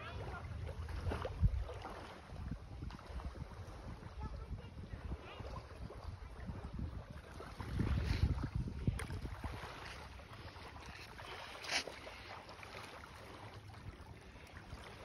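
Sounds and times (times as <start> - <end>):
wind on microphone: 0.0 - 12.3.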